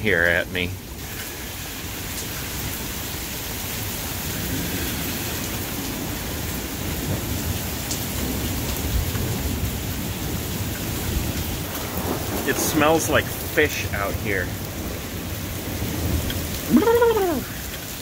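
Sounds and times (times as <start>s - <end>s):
heavy rain falling: 0.0s - 18.0s
low thunder rumble: 2.6s - 18.0s.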